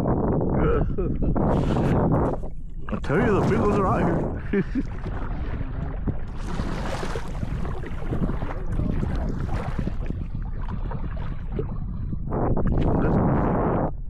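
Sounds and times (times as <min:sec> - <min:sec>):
wind rumbling on microphone: 0:00.0 - 0:14.0
small waves lapping against kayak: 0:01.2 - 0:13.0.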